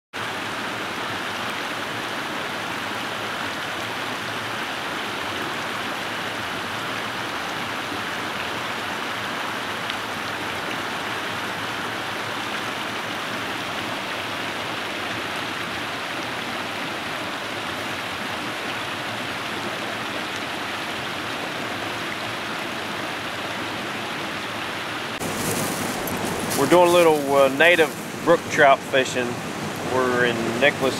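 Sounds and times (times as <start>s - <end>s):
stream running over stones: 0.2s - 30.9s.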